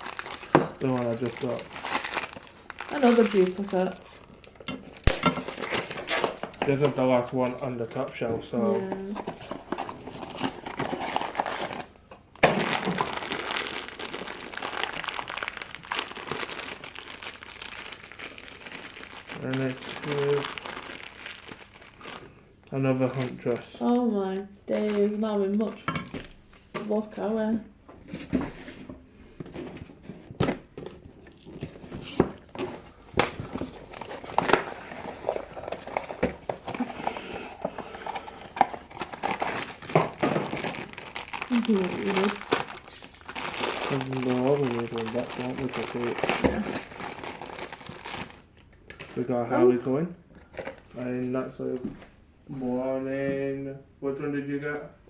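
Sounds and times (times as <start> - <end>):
packaging crinkling and rustling: 0.0 - 23.8, 24.7 - 26.7, 28.0 - 49.3, 50.3 - 52.0.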